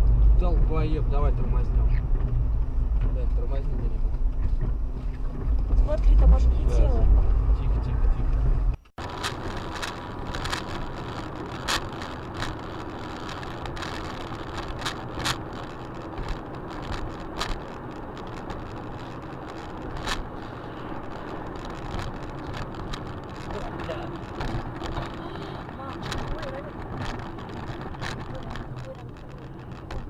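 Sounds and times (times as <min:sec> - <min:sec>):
car road noise: 0:00.0 - 0:30.0.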